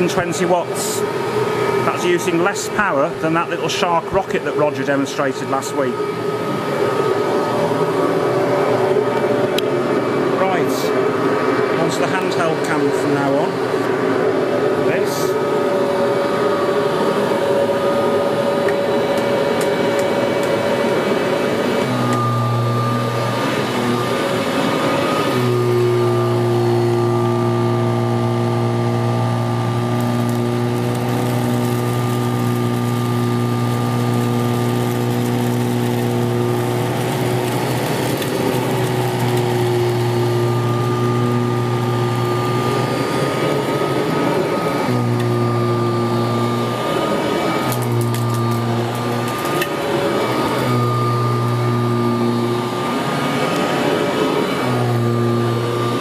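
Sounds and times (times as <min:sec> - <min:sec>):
vacuum cleaner running on carpet: 0:00.0 - 0:56.0.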